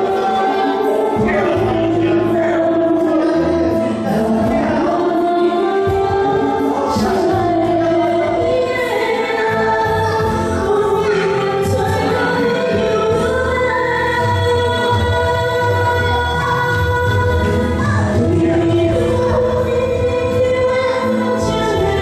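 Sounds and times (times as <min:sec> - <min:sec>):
song with held sung notes: 0:00.0 - 0:22.0.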